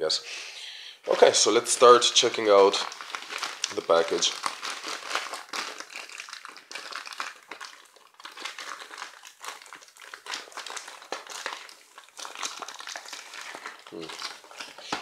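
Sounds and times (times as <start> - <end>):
plastic mailer bag crinkling: 1.1 - 15.0.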